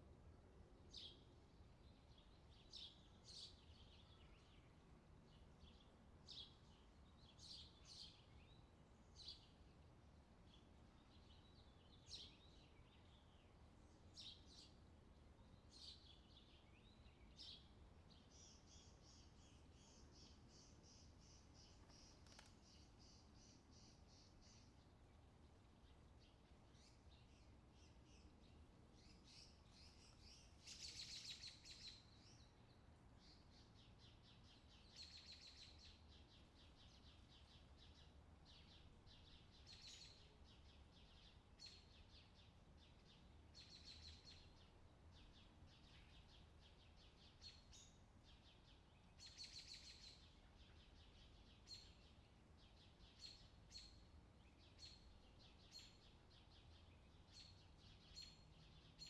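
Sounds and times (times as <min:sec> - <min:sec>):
birds chirping and trilling: 0:10.5 - 0:59.0.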